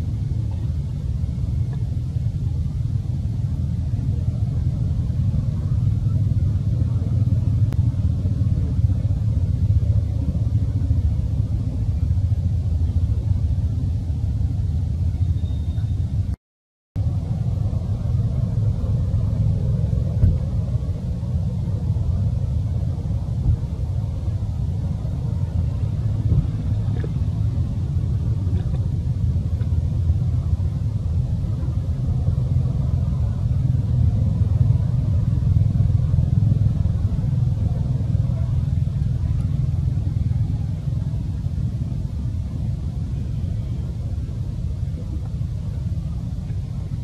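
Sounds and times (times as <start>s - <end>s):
steady low rumble: 0.0s - 16.4s, 17.0s - 47.0s.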